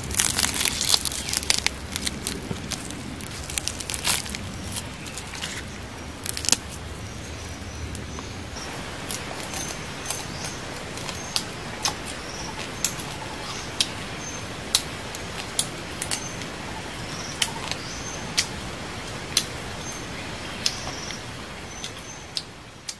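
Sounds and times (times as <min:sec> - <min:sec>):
steady background hiss: 0:00.0 - 0:22.9.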